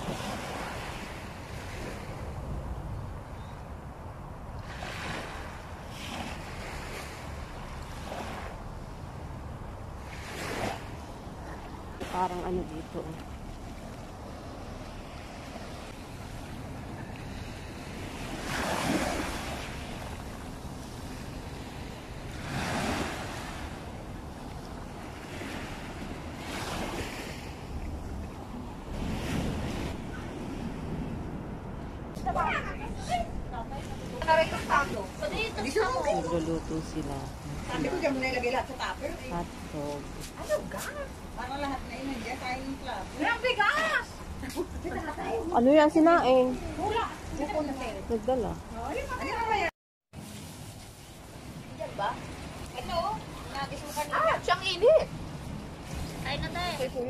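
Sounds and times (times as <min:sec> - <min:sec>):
waves washing on sandy beach: 0:00.0 - 0:57.0
wind rumble on microphone: 0:00.0 - 0:57.0.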